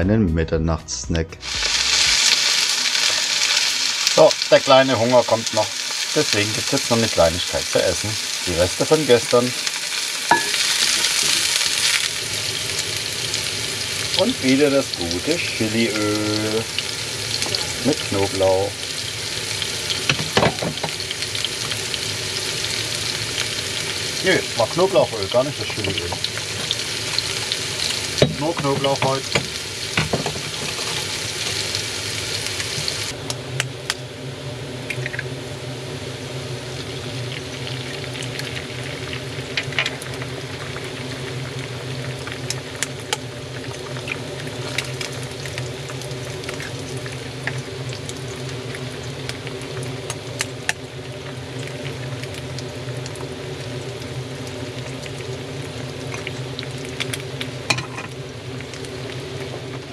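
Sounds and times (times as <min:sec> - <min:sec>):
food sizzling in oil: 0:01.4 - 0:59.9
steady low hum: 0:03.0 - 0:59.9.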